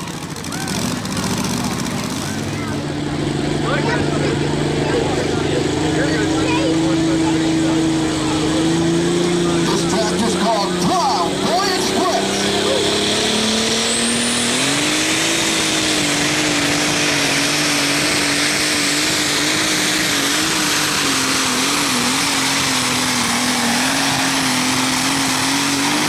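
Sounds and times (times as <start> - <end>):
tractor engine at high revs: 0.0 - 26.0.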